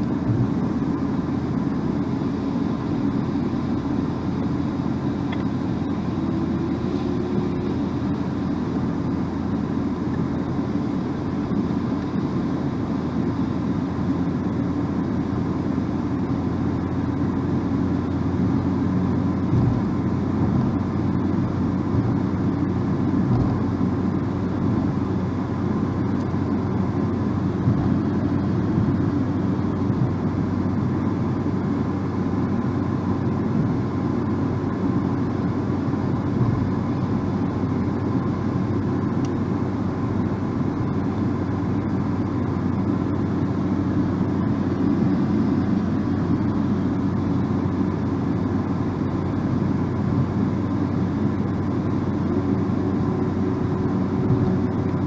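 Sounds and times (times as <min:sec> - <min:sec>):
car road noise inside cabin: 0:00.0 - 0:55.0.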